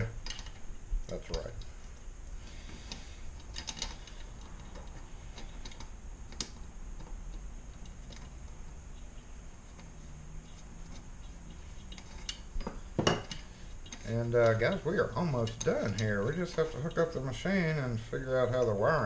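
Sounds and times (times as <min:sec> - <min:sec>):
small metal parts clicking: 0:00.0 - 0:02.0, 0:02.7 - 0:17.4.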